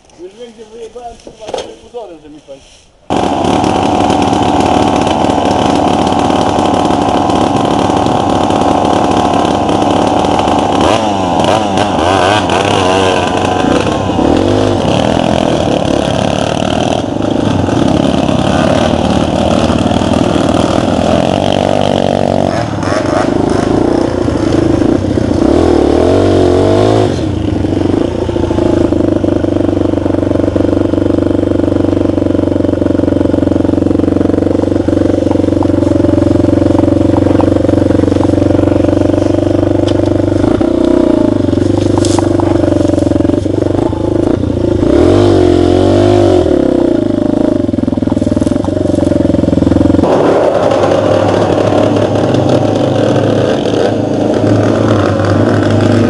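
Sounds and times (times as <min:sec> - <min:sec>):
dirt bike engine revving: 0:03.1 - 0:56.0.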